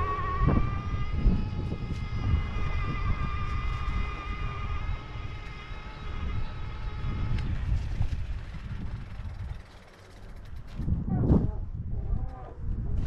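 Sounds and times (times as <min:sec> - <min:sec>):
e-bike motor whining: 0:00.0 - 0:13.0.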